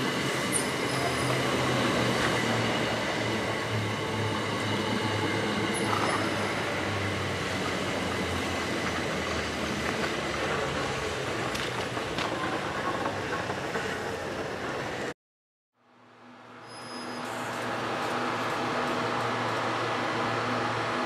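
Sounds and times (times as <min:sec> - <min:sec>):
train rumbling and humming: 0:00.0 - 0:15.2, 0:16.2 - 0:21.0.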